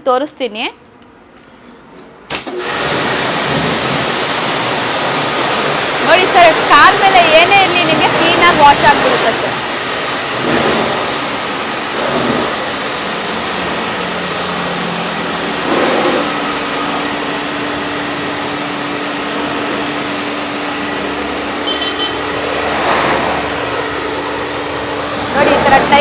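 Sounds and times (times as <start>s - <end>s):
pump motor hum: 2.3s - 26.0s
pressure washer spraying water: 2.4s - 26.0s.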